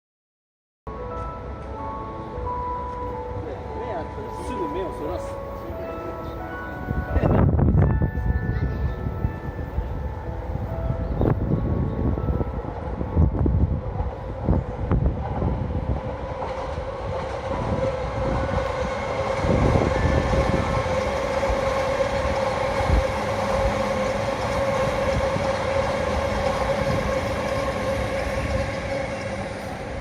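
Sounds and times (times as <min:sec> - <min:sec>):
steady train tone: 0:00.9 - 0:30.0
train wheels rumbling on rail: 0:04.6 - 0:30.0.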